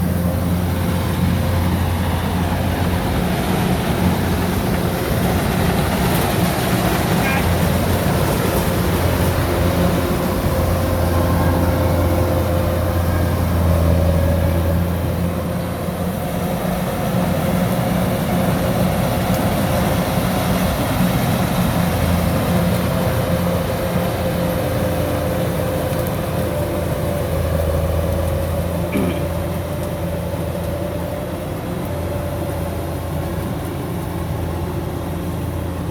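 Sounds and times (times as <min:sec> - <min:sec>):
diesel engine hum: 0:00.0 - 0:35.9
machinery whine: 0:00.0 - 0:35.9.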